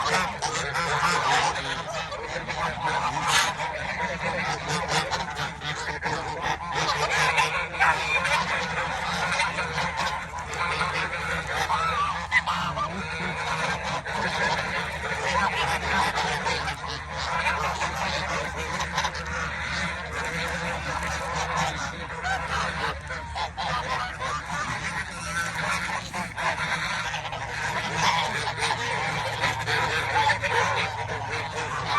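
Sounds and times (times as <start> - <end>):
steady low rumble: 0.0 - 31.9
waterfowl honking and calling: 0.0 - 31.9.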